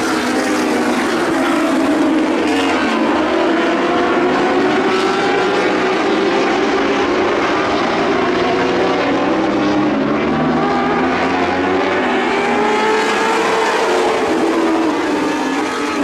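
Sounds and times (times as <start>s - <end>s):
racing car engines high-revving: 0.0s - 16.0s.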